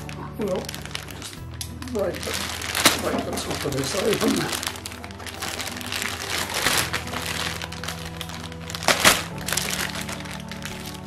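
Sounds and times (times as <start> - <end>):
background music: 0.0 - 11.0
plastic bag crinkling: 0.0 - 11.0
sharp crack: 0.0 - 11.0.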